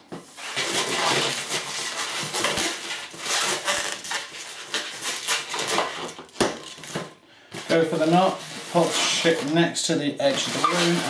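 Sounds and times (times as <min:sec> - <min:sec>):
balloon squeaking and rubbing: 0:00.0 - 0:06.9, 0:07.7 - 0:11.0.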